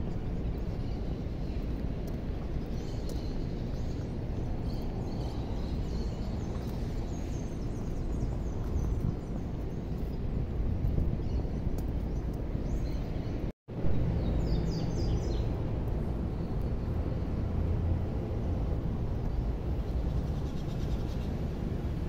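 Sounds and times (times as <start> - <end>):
street rumble: 0.0 - 22.0.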